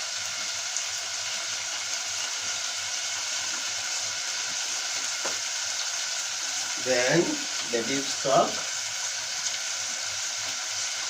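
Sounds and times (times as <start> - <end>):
onions and tomatoes sizzling: 0.0 - 11.0.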